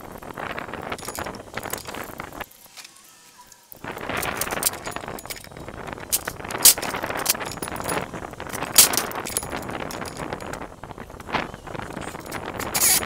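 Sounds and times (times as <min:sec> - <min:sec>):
tools and metal parts clinking: 0:00.1 - 0:13.0.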